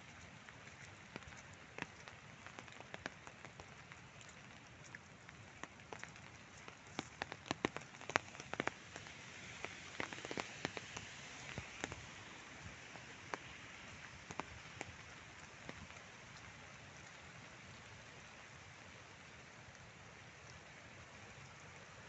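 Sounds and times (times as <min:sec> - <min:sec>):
raindrop taps: 0:00.0 - 0:17.8
rain hiss: 0:00.0 - 0:22.0.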